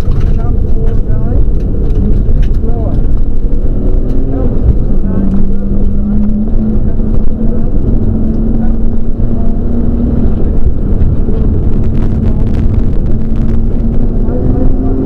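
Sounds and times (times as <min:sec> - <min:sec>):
car engine under load: 0:00.0 - 0:15.0
road and drivetrain rumble: 0:00.0 - 0:15.0.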